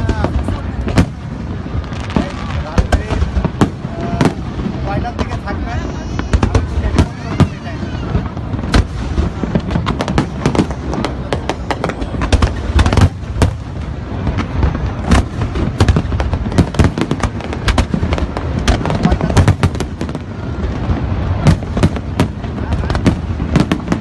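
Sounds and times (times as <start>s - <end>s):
fireworks bangs and crackles: 0.0s - 24.0s
loud firework reports: 0.0s - 24.0s.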